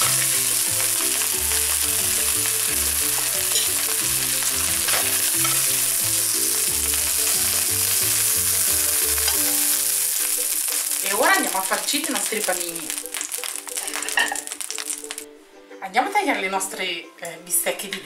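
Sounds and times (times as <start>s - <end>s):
meat sizzling in hot oil: 0.0s - 15.3s.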